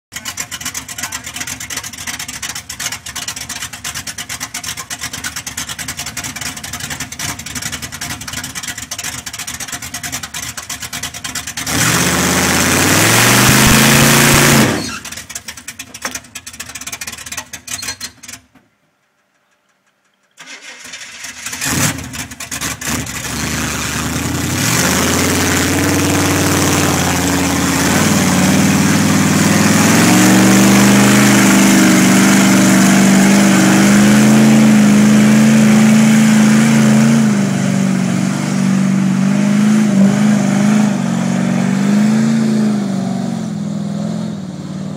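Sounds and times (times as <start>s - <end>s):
truck engine revving: 0.1s - 15.2s, 21.3s - 44.9s.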